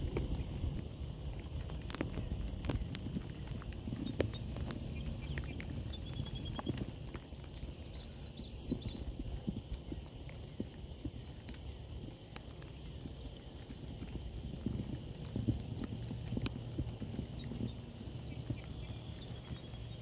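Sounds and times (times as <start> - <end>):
low rumble: 0.0 - 20.0
songbirds chirping: 0.2 - 20.0.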